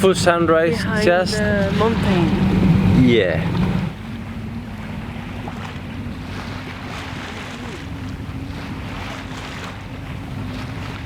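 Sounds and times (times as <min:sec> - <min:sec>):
boat engine droning: 0:00.0 - 0:11.0
water noise: 0:00.0 - 0:11.0
wind: 0:00.0 - 0:11.0.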